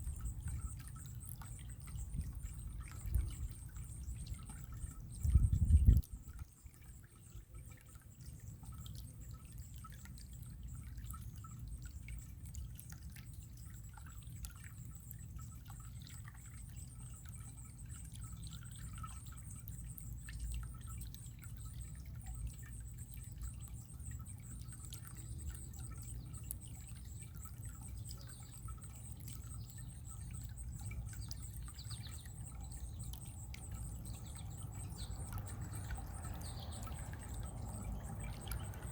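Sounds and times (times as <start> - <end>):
running water: 0.0 - 38.9
water drips and splashes: 0.0 - 38.9.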